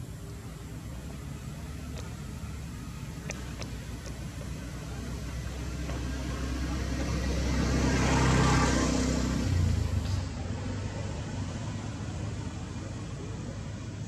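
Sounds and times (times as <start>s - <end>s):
vehicle engine passing by: 0.0s - 13.2s.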